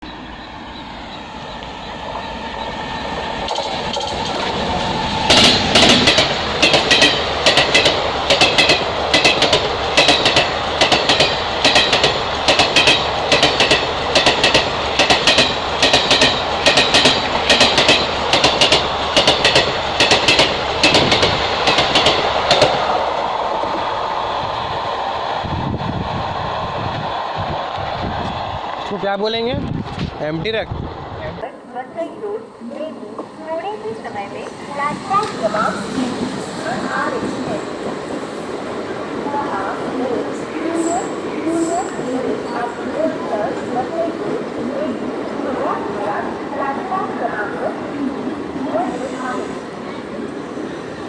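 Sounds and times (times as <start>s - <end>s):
train passing at speed: 0.0s - 51.0s.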